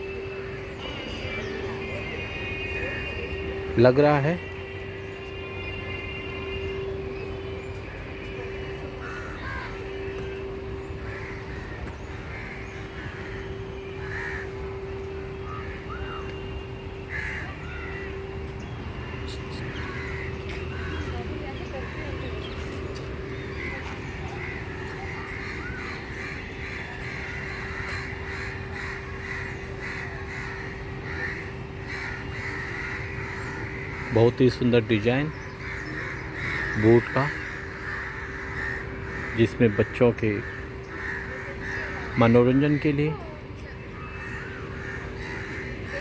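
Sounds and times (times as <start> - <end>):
constant hum: 0.0 - 46.0
crows cawing: 9.0 - 46.0.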